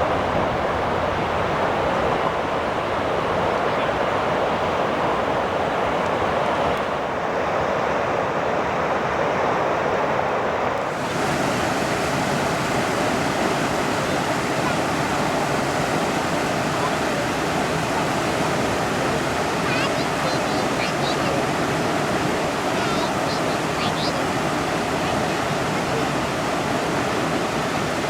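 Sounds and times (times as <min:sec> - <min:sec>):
river water rushing over rocks: 0:00.0 - 0:28.0.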